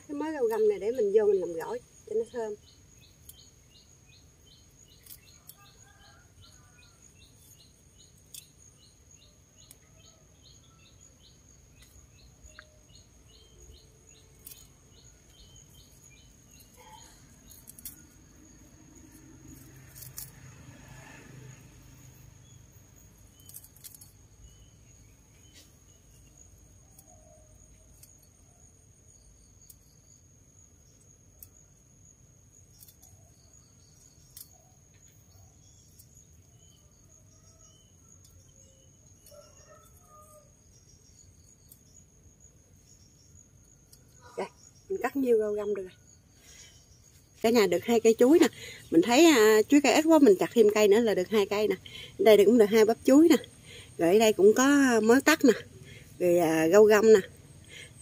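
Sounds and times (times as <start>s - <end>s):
insect chirping: 0.0s - 58.0s
insect trilling: 0.0s - 58.0s.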